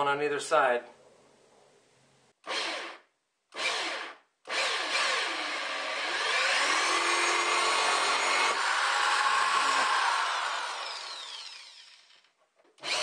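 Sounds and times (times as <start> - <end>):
power drill cutting plastic: 2.4 - 13.0.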